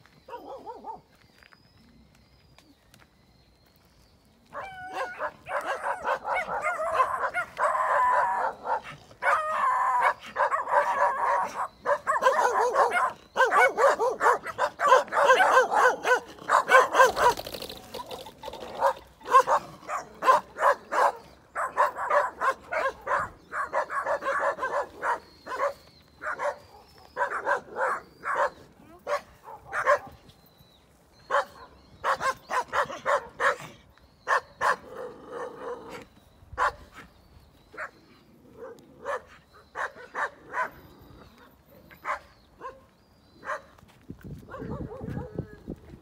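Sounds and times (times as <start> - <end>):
dogs barking: 0.3 - 1.1, 4.5 - 18.0, 18.6 - 30.2, 31.2 - 37.0, 37.7 - 43.8, 44.4 - 45.7.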